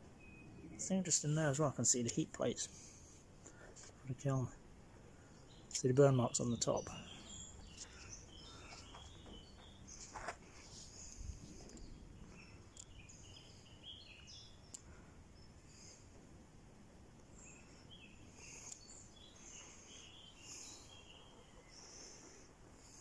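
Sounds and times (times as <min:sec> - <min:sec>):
distant bird chirps: 0:00.0 - 0:23.0.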